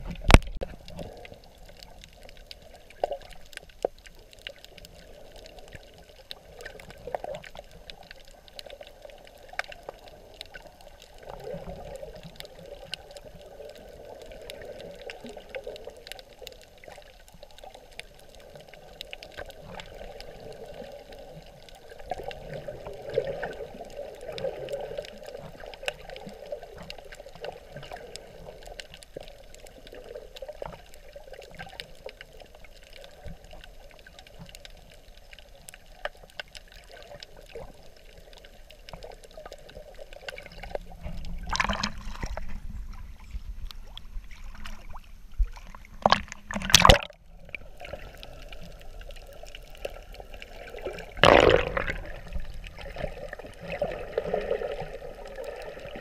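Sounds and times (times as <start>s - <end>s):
faint crackling clicks: 0.0s - 56.0s
underwater low hiss: 0.0s - 56.0s.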